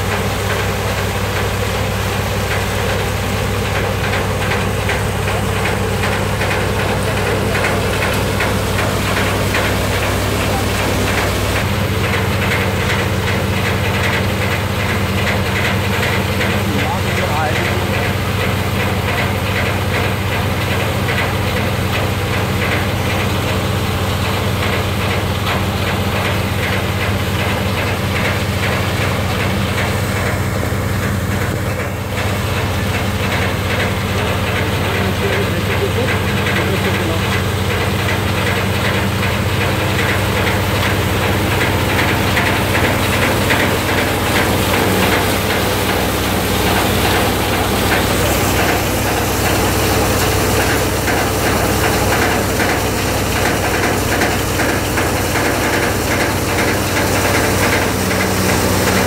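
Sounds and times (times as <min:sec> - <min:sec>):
rapid machine clatter: 0:00.0 - 0:59.0
thresher machine hum: 0:00.0 - 0:59.0.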